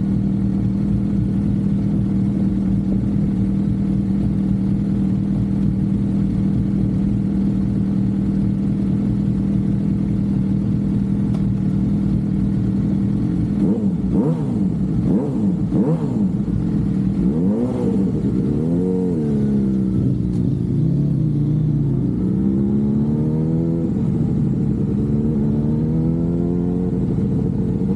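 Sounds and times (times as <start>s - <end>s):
motorcycle engine cruising: 0.0s - 27.9s.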